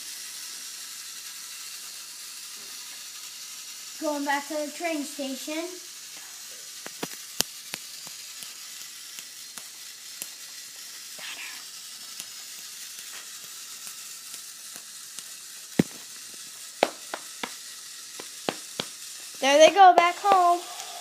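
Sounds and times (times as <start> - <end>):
steady hiss: 0.0 - 21.0
toy train clicking on plastic track: 0.0 - 21.0.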